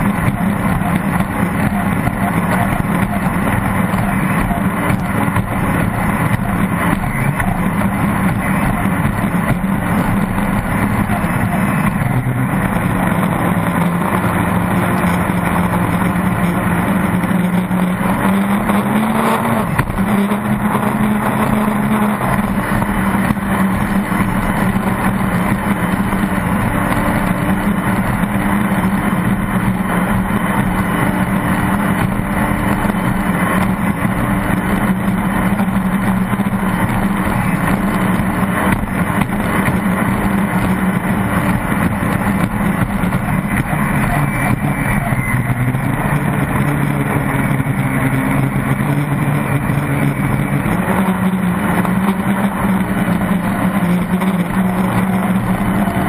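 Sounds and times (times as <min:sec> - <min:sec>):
boat engine running hard: 0:00.0 - 0:56.0
water rushing: 0:00.0 - 0:56.0.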